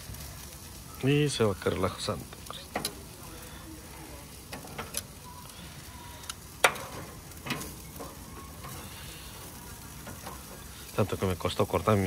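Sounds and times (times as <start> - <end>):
steak sizzling: 0.0 - 12.0.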